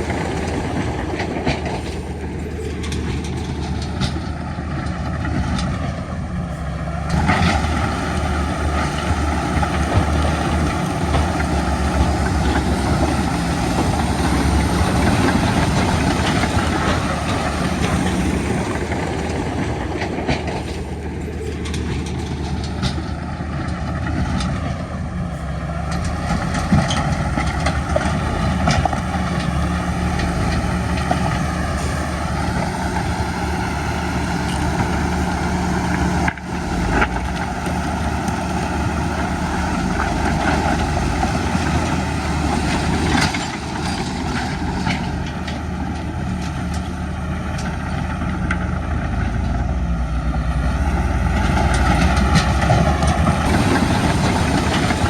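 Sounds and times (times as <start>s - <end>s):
diesel machinery engine running: 0.0s - 55.0s.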